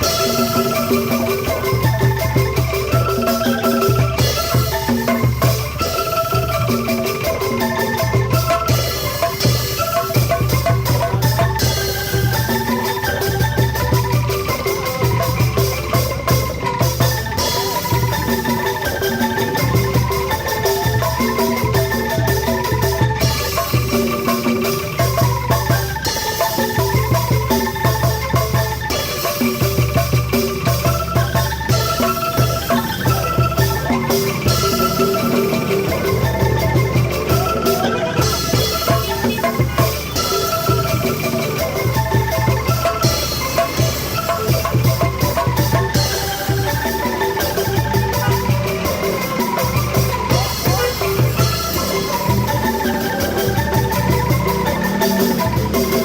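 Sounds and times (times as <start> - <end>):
angklung ensemble playing: 0.0 - 56.0
shaken bamboo tubes: 0.0 - 56.0.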